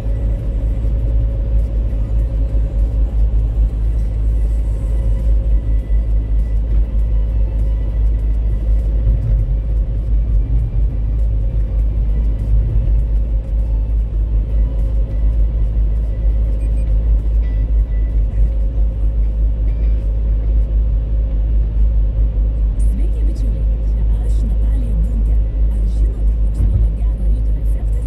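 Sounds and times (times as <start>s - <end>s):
car interior road noise: 0.0s - 28.0s.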